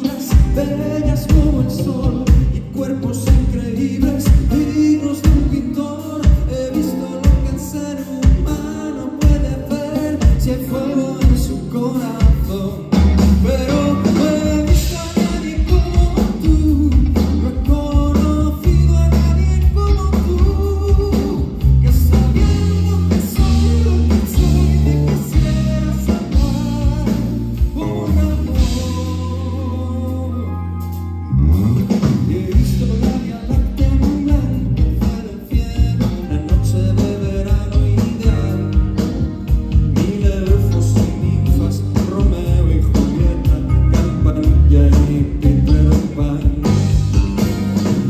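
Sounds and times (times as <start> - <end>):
man singing into microphone: 0.0 - 47.2
live band playing: 0.0 - 48.0.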